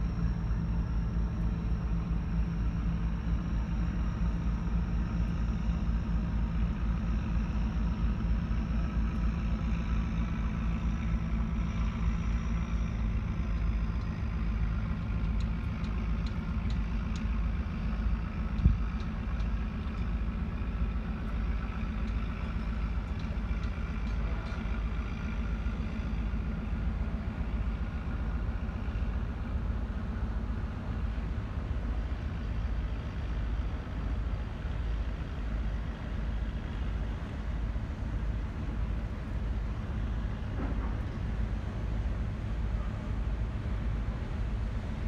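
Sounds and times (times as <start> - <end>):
ship engine drone: 0.0 - 45.0.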